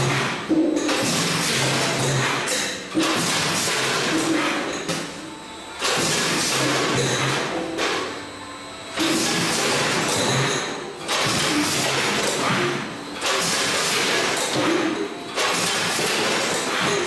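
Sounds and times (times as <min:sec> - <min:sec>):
packing machine running: 0:00.0 - 0:17.0.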